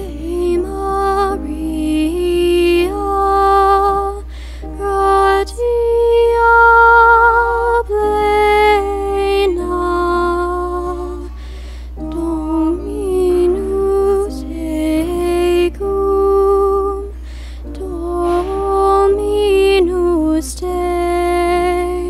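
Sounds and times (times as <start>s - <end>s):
slow hymn music: 0.0s - 22.0s.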